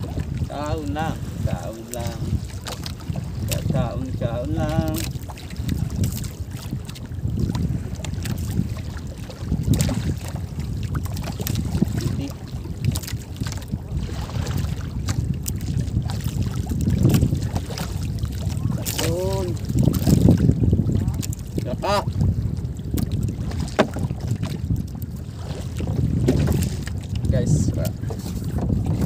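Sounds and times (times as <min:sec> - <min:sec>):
water slapping against hull: 0:00.0 - 0:29.0
wind buffeting microphone: 0:00.0 - 0:29.0.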